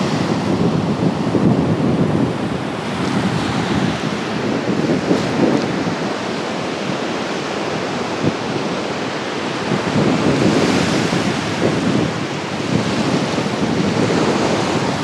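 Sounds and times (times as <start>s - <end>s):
surf breaking on a beach: 0.0s - 15.0s
wind buffeting the microphone: 0.0s - 15.0s.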